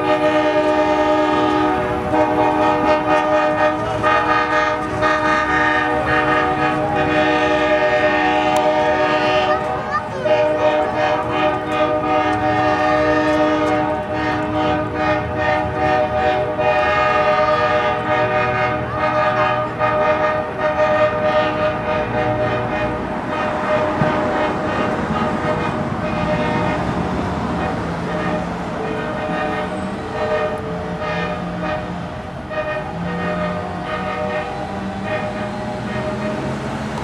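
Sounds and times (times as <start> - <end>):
locomotive air horn chord: 0.0 - 37.0
train rumbling past: 0.0 - 37.0.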